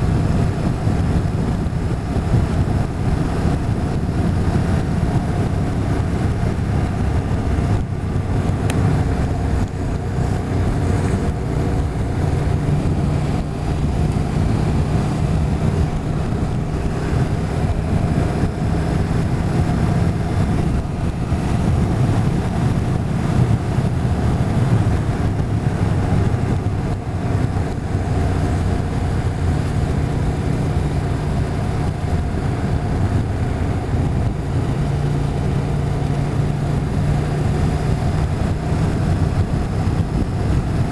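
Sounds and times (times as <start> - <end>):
motorcycle engine hum: 0.0 - 40.9
wind rushing over microphone: 0.0 - 40.9.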